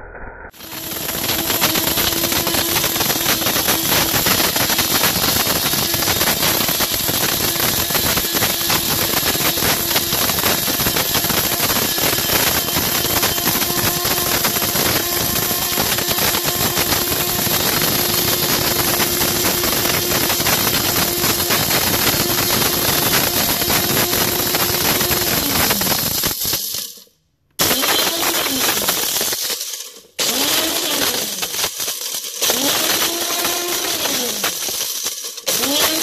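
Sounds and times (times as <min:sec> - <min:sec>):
blender motor humming: 0:00.5 - 0:26.9, 0:27.6 - 0:36.0
plastic fragments rattling in blender: 0:00.5 - 0:36.0.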